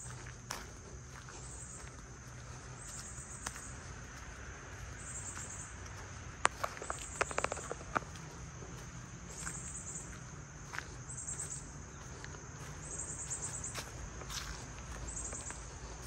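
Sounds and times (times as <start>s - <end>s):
footsteps on gravel: 0.0s - 16.0s
insects buzzing: 0.0s - 16.0s.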